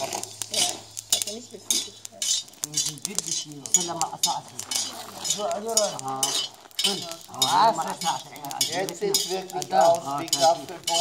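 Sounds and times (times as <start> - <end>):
metal stirrer scraping pan and beans: 0.0 - 11.0.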